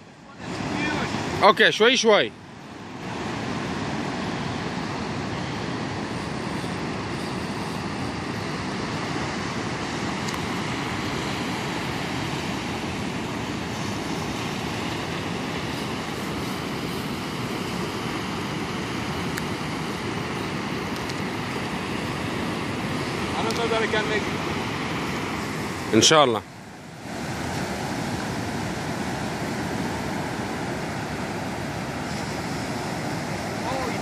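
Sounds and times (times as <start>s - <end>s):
breaking surf: 0.0s - 34.0s.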